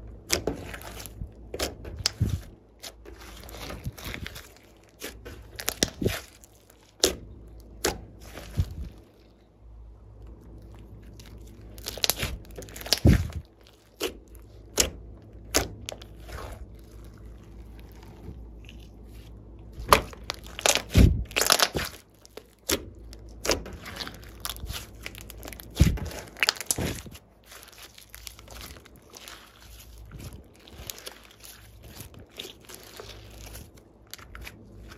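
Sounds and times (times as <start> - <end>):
slime squished by hand: 0.2 - 9.4, 10.2 - 34.9.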